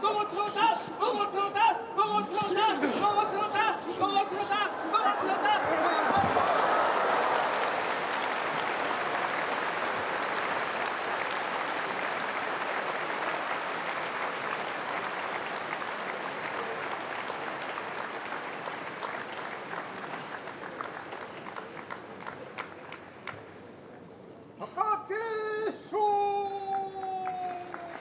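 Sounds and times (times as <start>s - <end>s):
audience applauding: 0.0s - 23.4s, 26.5s - 28.0s.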